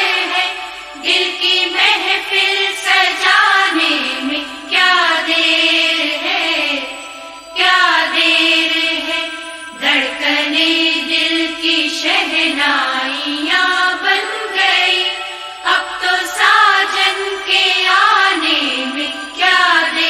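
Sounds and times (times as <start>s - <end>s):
song with person singing: 0.0s - 20.0s.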